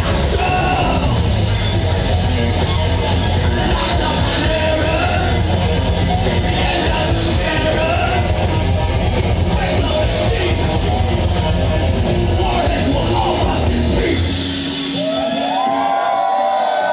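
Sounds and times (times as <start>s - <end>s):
bass guitar: 0.0s - 16.9s
distorted electric guitar: 0.0s - 16.9s
drum kit: 0.0s - 16.9s.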